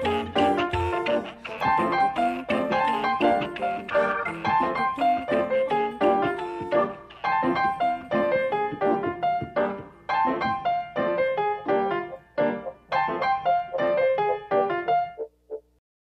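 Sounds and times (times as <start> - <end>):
piano melody: 0.0 - 15.8.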